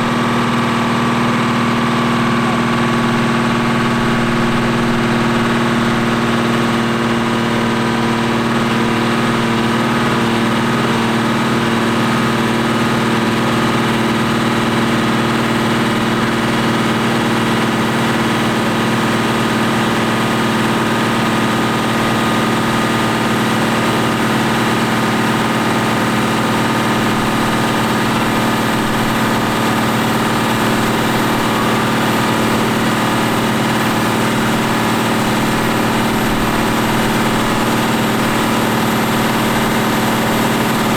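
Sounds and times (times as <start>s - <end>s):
tractor engine running steadily: 0.0s - 40.9s.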